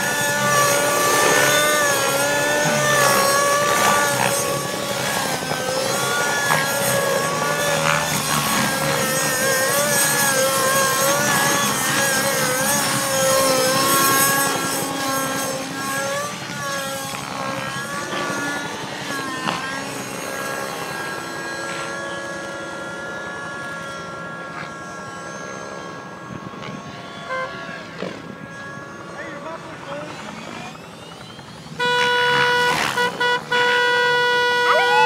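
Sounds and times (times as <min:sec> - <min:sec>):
model helicopter engine and rotor: 0:00.0 - 0:35.0.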